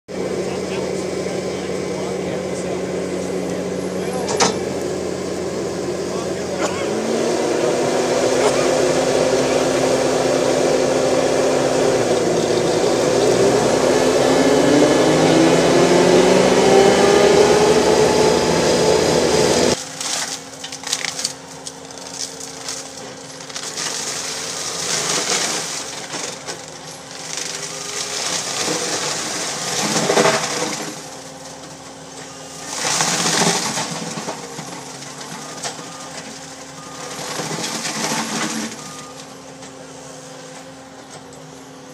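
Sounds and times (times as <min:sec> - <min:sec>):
mulcher drum grinding trees: 0:00.1 - 0:41.9
skid-steer mulcher machine whine: 0:00.1 - 0:41.9.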